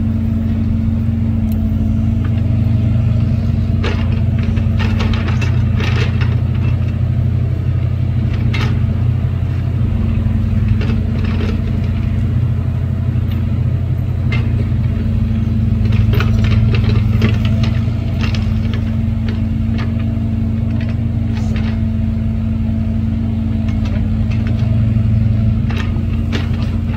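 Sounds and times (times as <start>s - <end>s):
engine rumble and hum: 0.0s - 26.9s.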